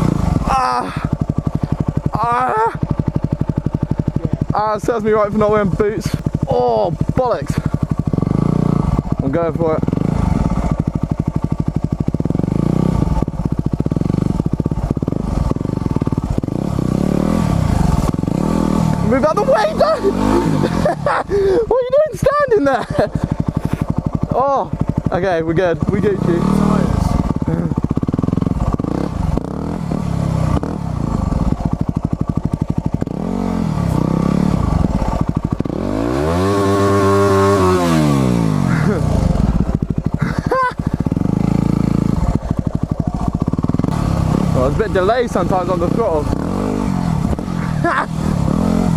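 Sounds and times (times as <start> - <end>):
motorcycle engine at low revs: 0.0 - 48.9.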